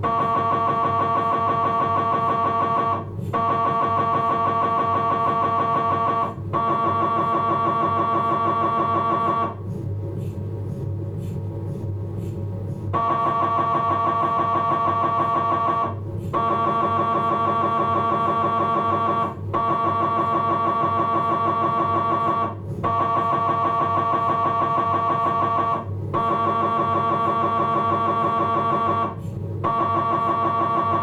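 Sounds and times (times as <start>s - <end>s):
mri scanner pulsing buzz: 0.0s - 31.0s.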